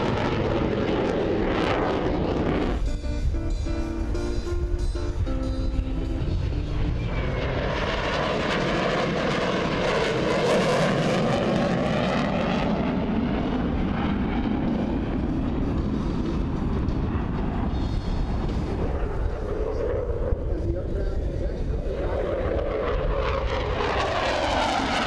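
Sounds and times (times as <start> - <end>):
fighter jet roar: 0.0 - 25.0.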